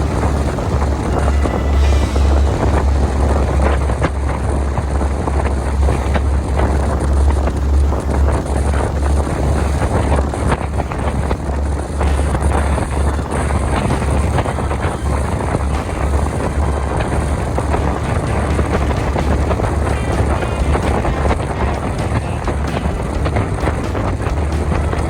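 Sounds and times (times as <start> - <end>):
boat engine droning: 0.0 - 25.0
wind buffeting microphone: 0.0 - 25.0.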